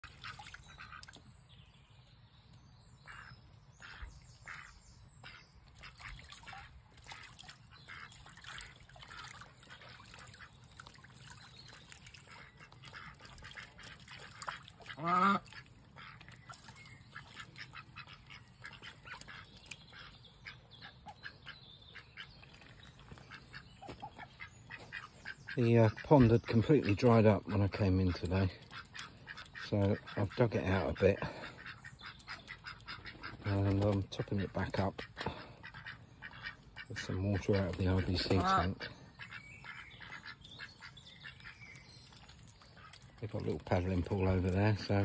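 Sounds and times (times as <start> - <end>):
ducks quacking: 0.0 - 1.2, 3.0 - 41.8, 42.7 - 45.0
ducks splashing in water: 0.0 - 1.8, 3.0 - 45.0.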